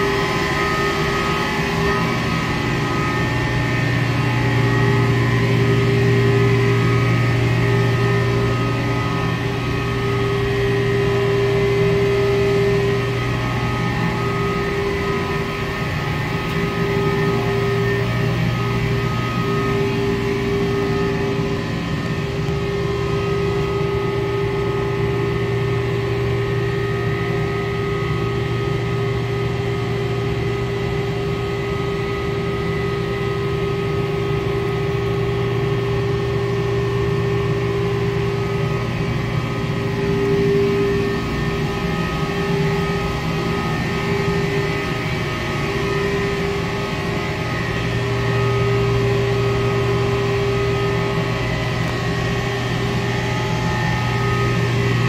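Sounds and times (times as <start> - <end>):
ship machinery drone: 0.0 - 55.0.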